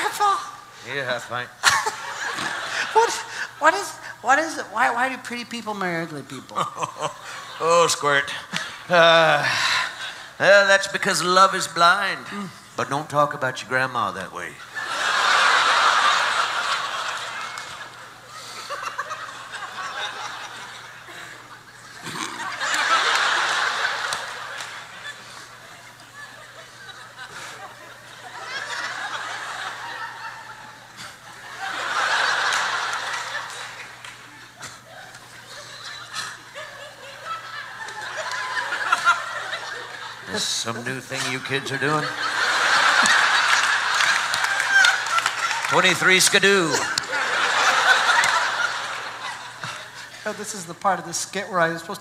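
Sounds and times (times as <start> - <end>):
audience laughing: 1.6 - 4.2, 6.5 - 10.4, 14.6 - 50.7.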